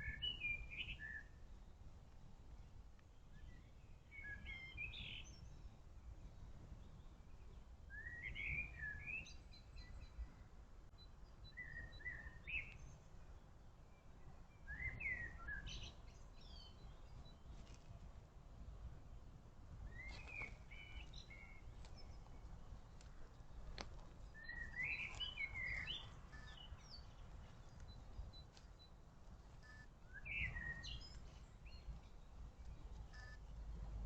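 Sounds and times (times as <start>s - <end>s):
songbird chirping: 0.0s - 34.0s.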